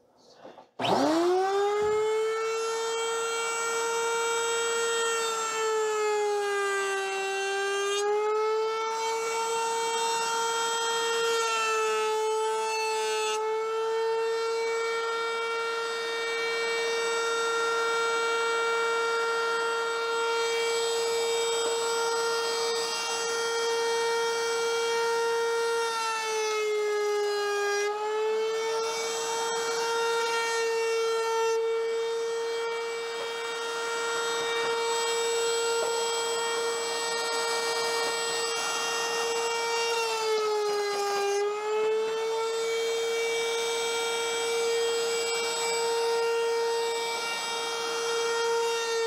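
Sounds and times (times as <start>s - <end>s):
wood router high whine: 0.0s - 49.0s.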